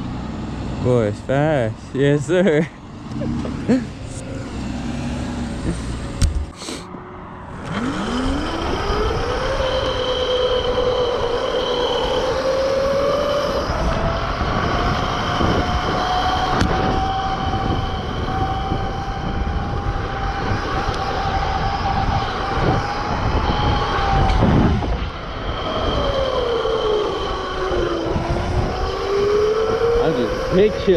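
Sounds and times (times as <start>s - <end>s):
low rushing noise: 0.0s - 30.9s
electric motor whining: 3.1s - 30.9s.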